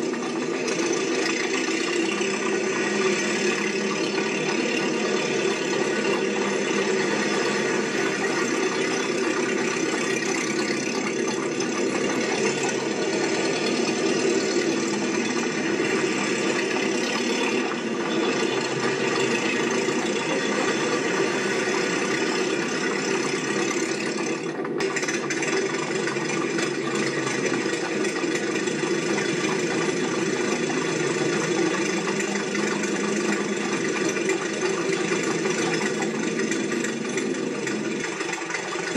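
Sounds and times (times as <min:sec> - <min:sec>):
mechanical running noise with rattle: 0:00.0 - 0:38.9.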